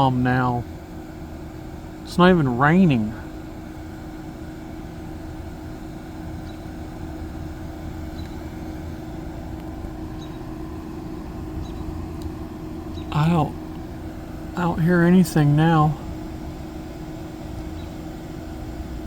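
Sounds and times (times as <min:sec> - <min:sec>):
air conditioning drone: 0:00.0 - 0:19.0
car engine idling: 0:00.0 - 0:19.0.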